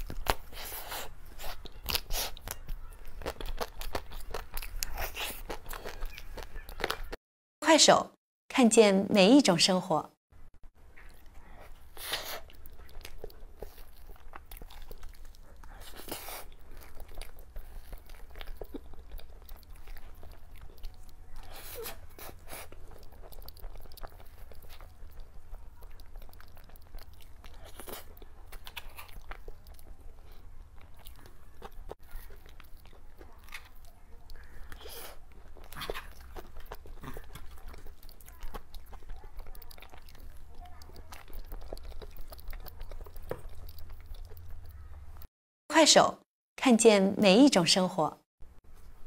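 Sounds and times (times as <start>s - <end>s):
crunchy bite: 0.0s - 7.2s, 11.8s - 45.3s
person chewing cake: 0.0s - 7.2s, 10.8s - 45.3s.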